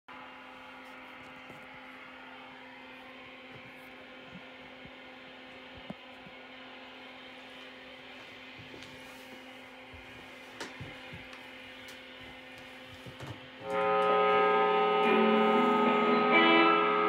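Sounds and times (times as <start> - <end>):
amplifier electrical hum and hiss: 0.1 - 17.0.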